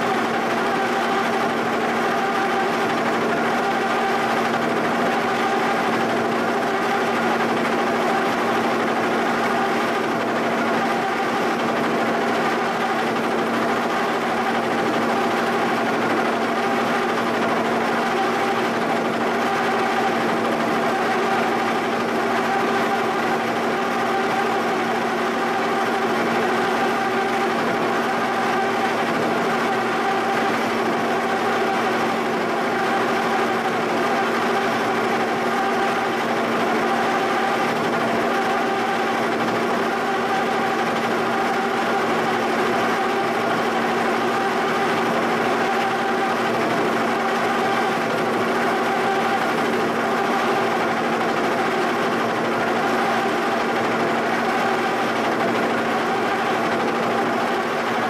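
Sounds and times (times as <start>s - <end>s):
boring mill cutting metal: 0.0s - 58.0s.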